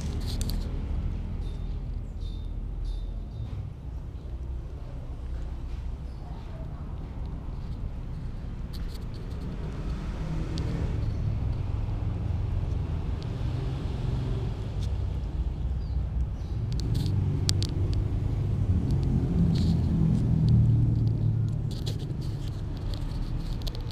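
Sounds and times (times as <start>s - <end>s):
low steady rumble: 0.0s - 23.9s.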